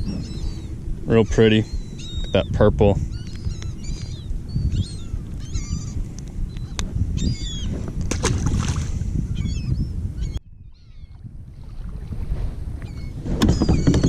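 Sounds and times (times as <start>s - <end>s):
seabirds chattering cries: 0.0s - 7.7s, 9.2s - 11.8s, 12.8s - 14.0s
low rumble of wind and water: 0.0s - 14.0s.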